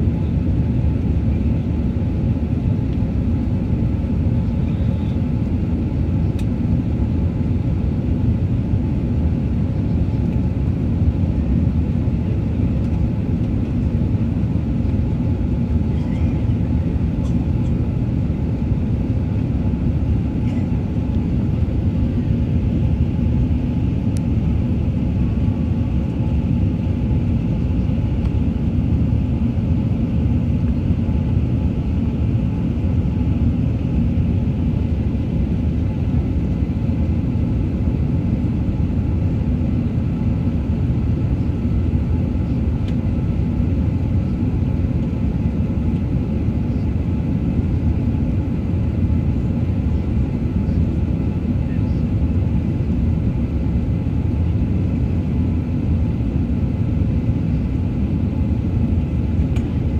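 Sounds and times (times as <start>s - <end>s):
airflow noise in cabin: 0.0s - 59.9s
jet engine rumble: 0.0s - 59.9s.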